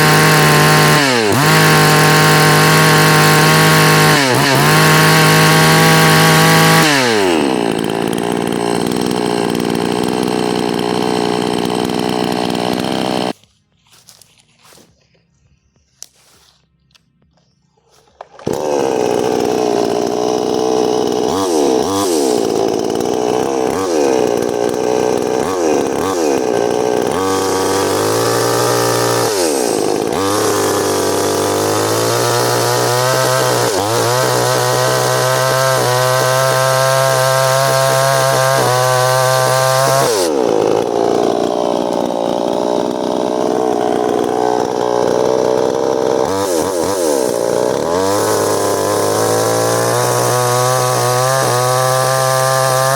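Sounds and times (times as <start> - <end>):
chainsaw revving: 0.0 - 14.9, 18.0 - 52.9.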